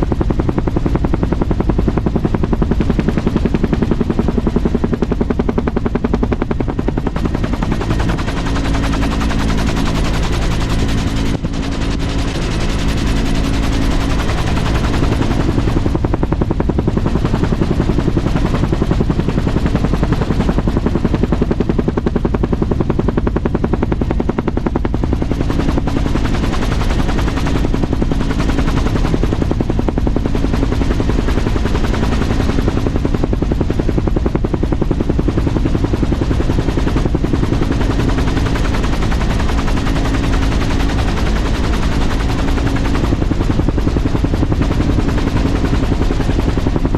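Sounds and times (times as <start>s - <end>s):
helicopter engine noise: 0.0s - 46.9s
helicopter rotor blade slap: 0.0s - 46.9s.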